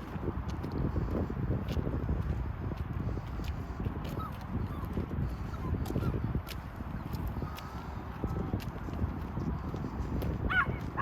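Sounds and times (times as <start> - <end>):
footsteps on hard path: 0.0 - 11.0.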